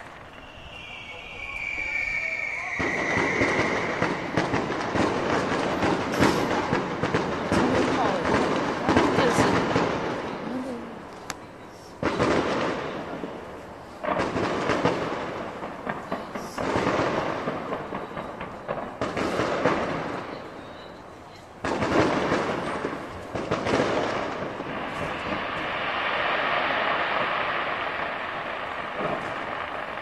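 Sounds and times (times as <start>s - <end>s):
distant firework booms: 2.8s - 11.1s, 12.0s - 20.6s, 21.6s - 30.0s.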